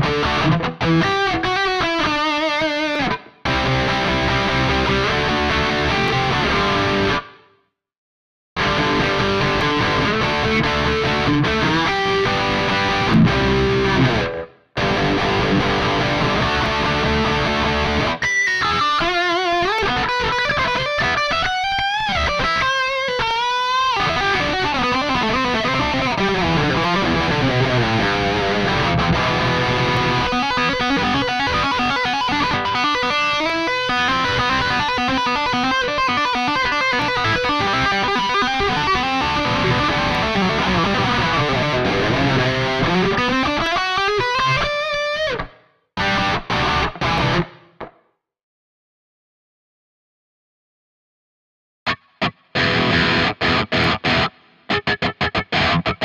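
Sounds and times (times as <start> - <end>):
distorted electric guitar: 0.0 - 7.5, 8.6 - 48.0, 51.9 - 56.0.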